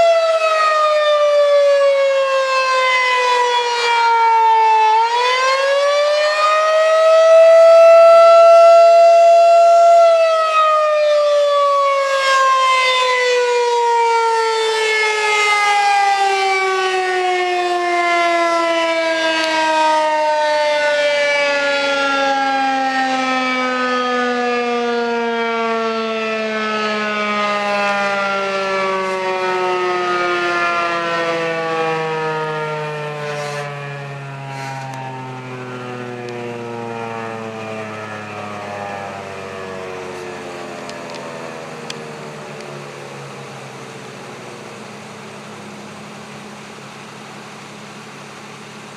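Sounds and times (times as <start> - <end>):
electromechanical siren winding down: 0.0 - 48.2.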